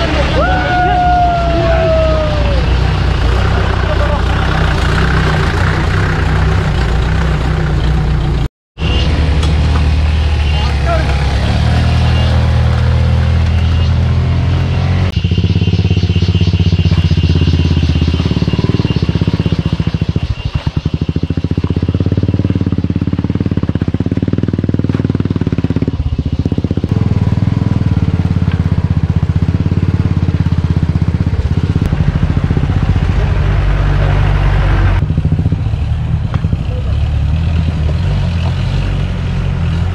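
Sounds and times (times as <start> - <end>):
motorcycle engine climbing: 0.0 - 39.9.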